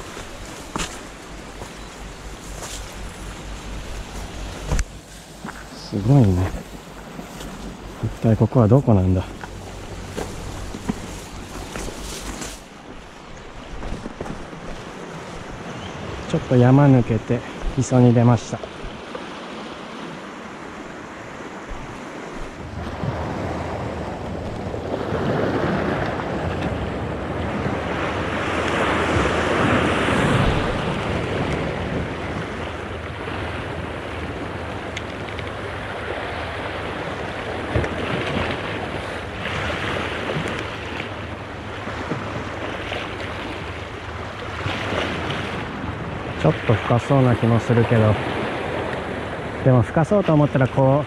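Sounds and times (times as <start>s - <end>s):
wind rumbling on microphone: 0.0s - 49.7s
waves breaking on rocky shore: 0.0s - 51.0s.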